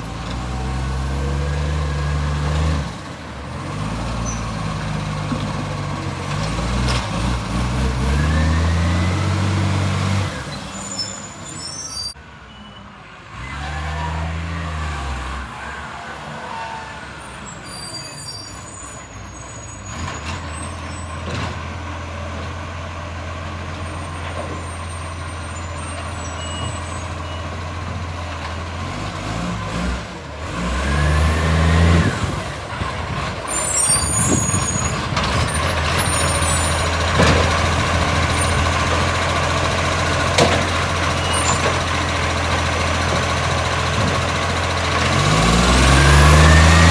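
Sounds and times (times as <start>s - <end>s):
diesel engine revving: 0.0s - 12.1s, 13.2s - 46.9s.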